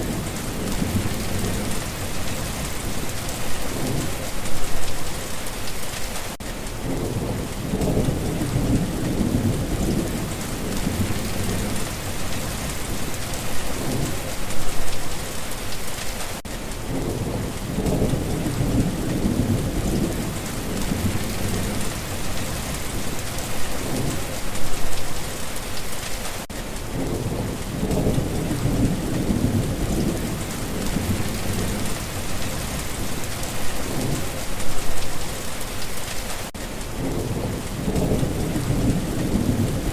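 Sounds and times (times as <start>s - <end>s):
low rolling thunder: 0.0s - 4.9s, 6.8s - 14.9s, 16.8s - 24.7s, 26.9s - 35.2s, 36.9s - 39.9s
steady rain hissing: 0.0s - 39.9s.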